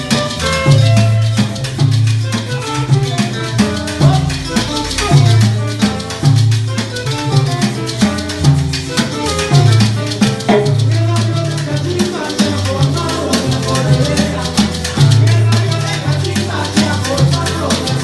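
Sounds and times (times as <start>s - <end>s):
salsa music: 0.0s - 18.0s.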